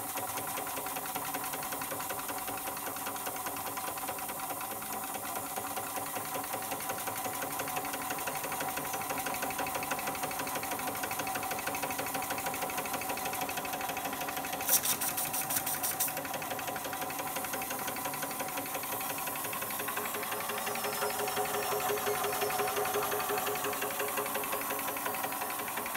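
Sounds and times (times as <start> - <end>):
toy steam engine chuffing: 0.0 - 25.9.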